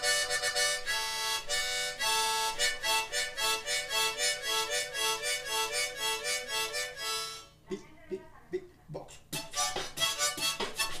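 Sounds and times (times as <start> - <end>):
harmonica rhythmic chords: 0.0 - 8.2, 9.0 - 11.0.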